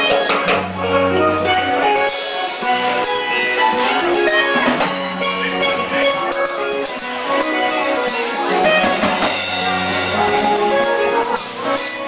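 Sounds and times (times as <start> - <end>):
drum kit: 0.0 - 12.0
electric guitar: 0.0 - 12.0.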